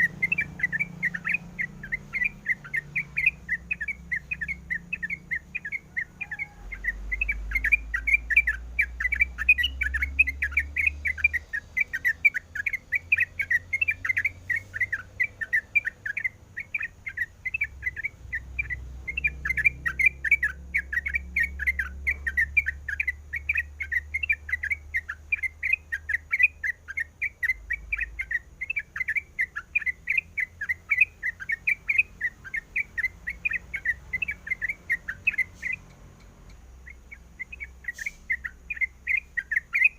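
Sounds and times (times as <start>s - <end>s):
bird singing fast chatter: 0.0s - 39.9s.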